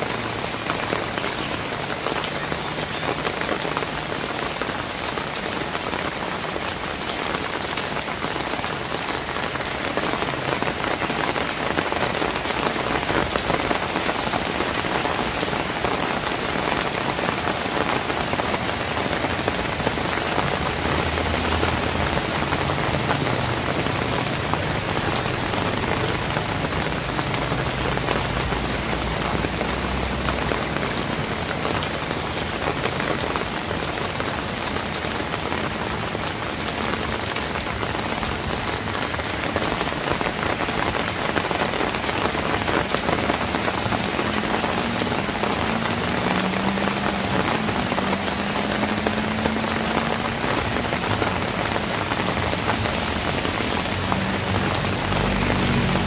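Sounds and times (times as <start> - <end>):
rain on wet pavement: 0.0 - 56.0.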